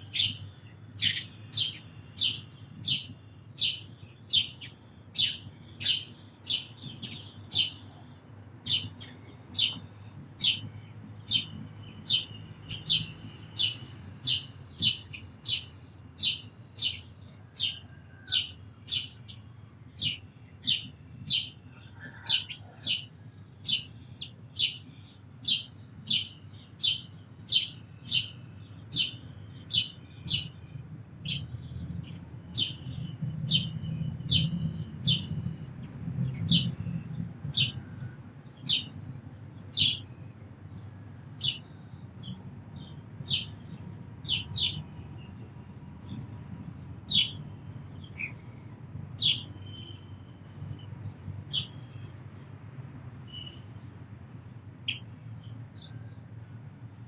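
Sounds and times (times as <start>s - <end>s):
sparrow chirping: 0.0s - 57.0s.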